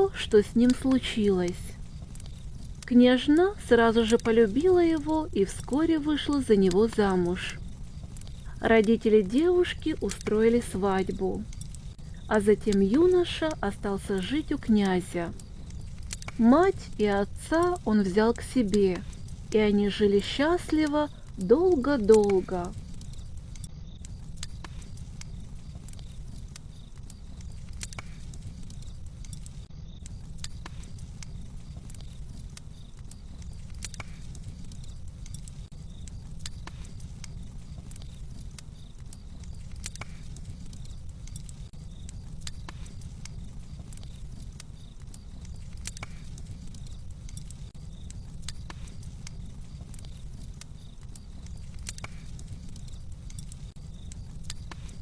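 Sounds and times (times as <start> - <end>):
fire burning: 0.0 - 55.0
fire popping and crackling: 0.0 - 55.0.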